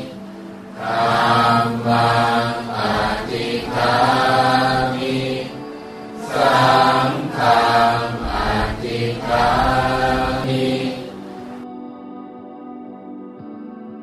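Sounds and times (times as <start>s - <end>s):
choir chanting: 0.0s - 11.6s
low drone: 0.0s - 11.7s.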